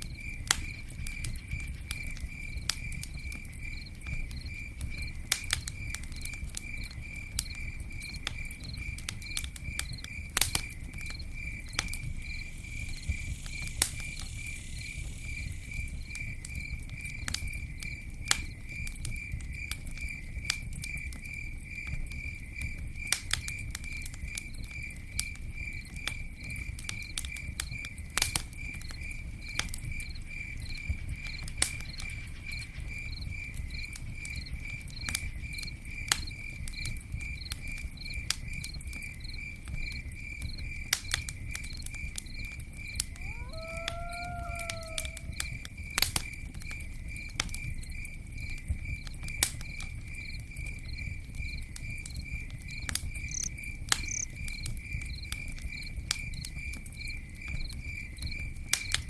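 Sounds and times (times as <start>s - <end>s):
campfire crackling and popping: 0.0s - 59.0s
cricket chirping: 0.0s - 59.0s.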